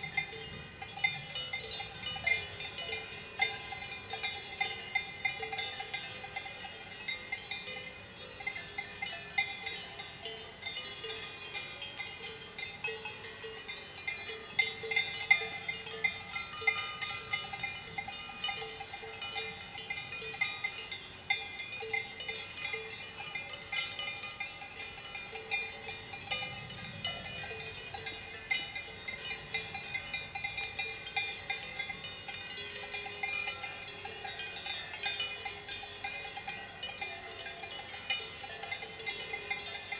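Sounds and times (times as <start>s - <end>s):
cowbells clanging: 0.0s - 39.9s.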